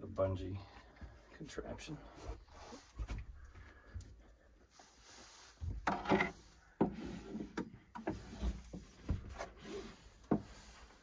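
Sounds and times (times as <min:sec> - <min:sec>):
bungee cord rubbing and handling: 0:02.2 - 0:11.0.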